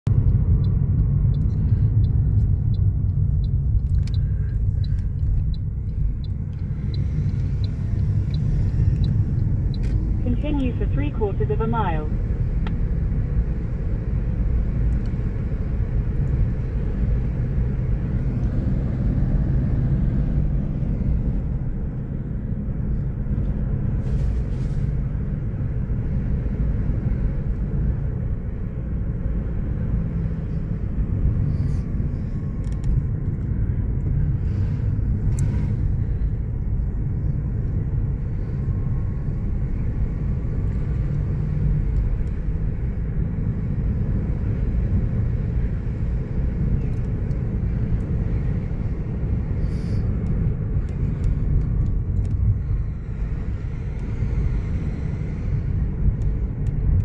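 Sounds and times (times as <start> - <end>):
car driving rumble: 0.0 - 57.0.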